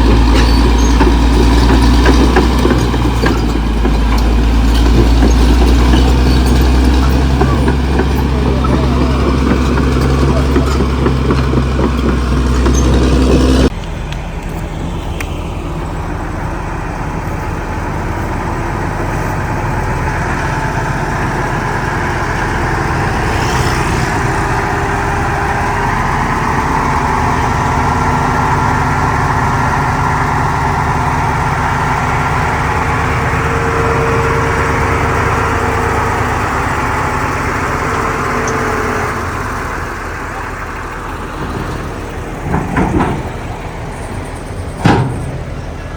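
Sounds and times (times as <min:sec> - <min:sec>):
bulldozer diesel engine running: 0:00.0 - 0:45.9
heavy deep rumble: 0:00.0 - 0:45.9.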